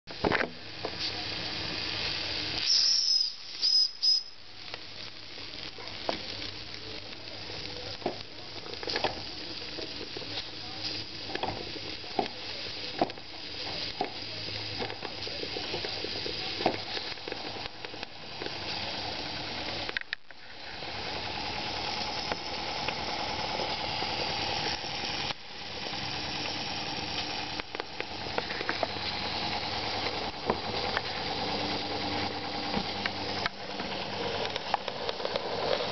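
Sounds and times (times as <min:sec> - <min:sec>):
steam hiss: 0:00.1 - 0:35.9.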